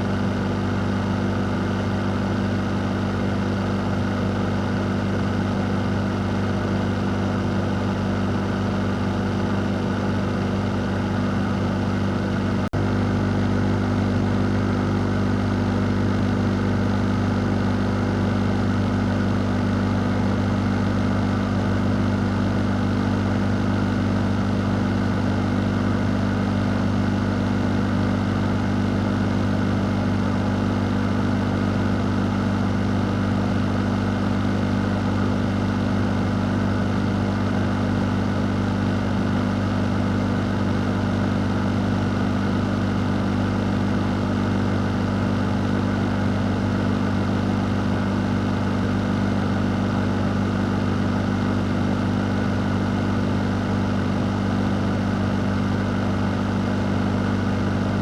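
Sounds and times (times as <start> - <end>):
fan running: 0.0 - 58.0.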